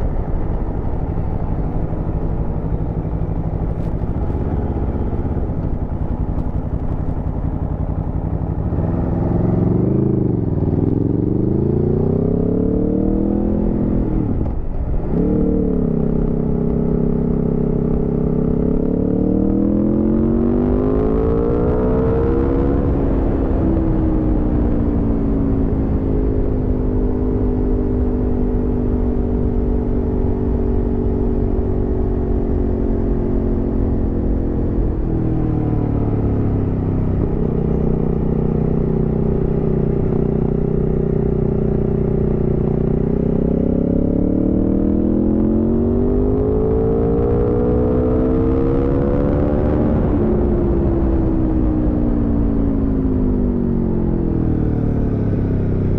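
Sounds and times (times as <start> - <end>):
motorcycle engine revving: 0.0 - 28.3, 29.4 - 55.9.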